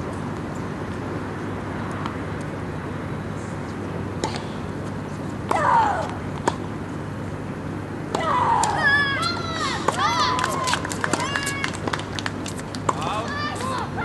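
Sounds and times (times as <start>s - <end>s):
steady low background hum: 0.0s - 14.0s.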